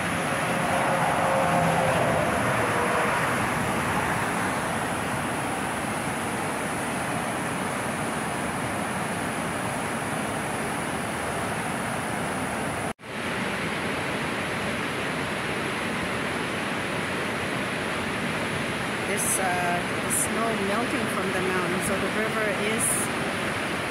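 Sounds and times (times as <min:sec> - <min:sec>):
car road and wind noise: 0:00.0 - 0:23.9
river rushing over rapids: 0:00.0 - 0:23.9.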